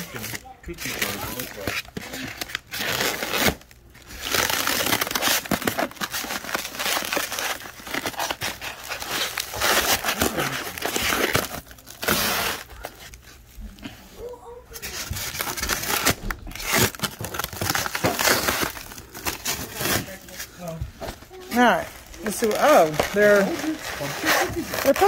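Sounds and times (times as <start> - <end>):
styrofoam and plastic crinkling: 0.0 - 25.0.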